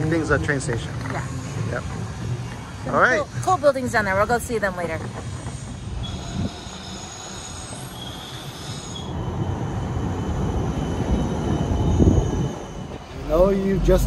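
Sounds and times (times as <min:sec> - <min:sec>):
thin high steady tones: 0:00.0 - 0:14.0
tram wheels rumbling on rails: 0:00.0 - 0:14.0.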